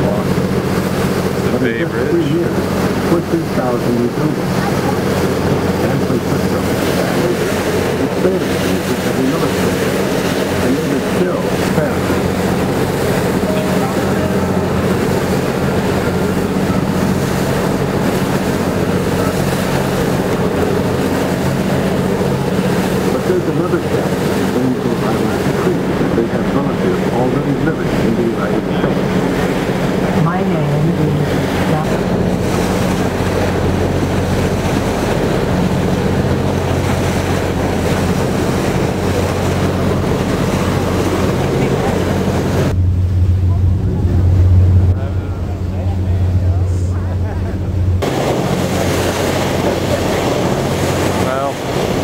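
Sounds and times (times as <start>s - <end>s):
boat engine running: 0.0s - 52.0s
choppy water washing: 0.0s - 52.0s
wind buffeting microphone: 0.0s - 52.0s.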